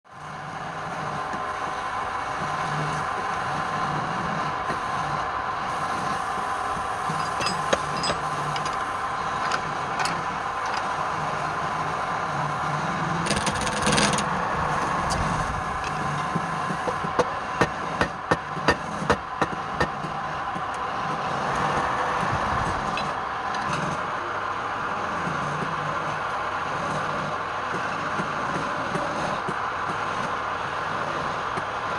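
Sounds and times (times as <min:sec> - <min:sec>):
lathe humming: 0:00.1 - 0:31.9.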